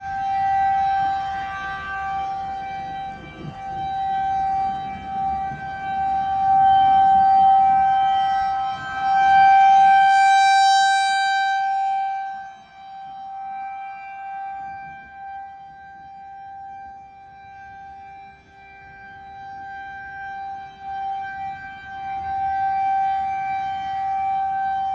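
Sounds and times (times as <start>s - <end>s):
tornado siren steady high tone: 0.0s - 24.9s.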